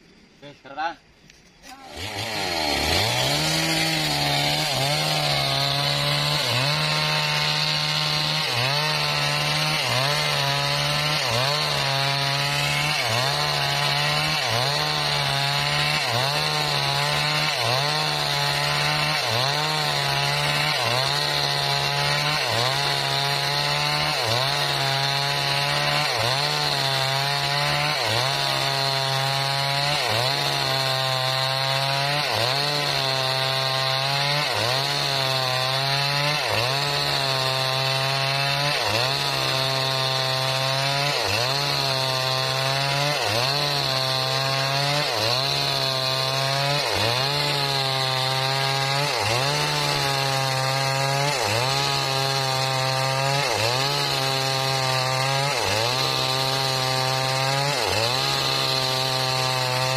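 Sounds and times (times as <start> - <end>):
sawmill engine: 1.6 - 59.9.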